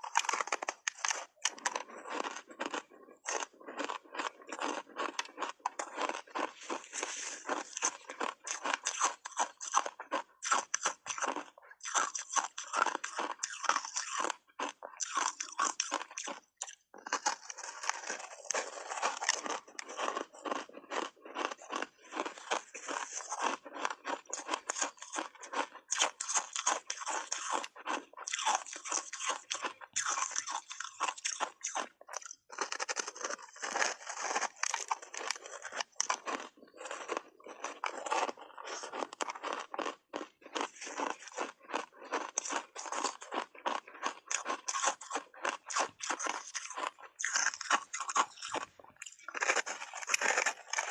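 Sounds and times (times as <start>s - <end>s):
ice being bitten and chewed: 0.0s - 50.9s.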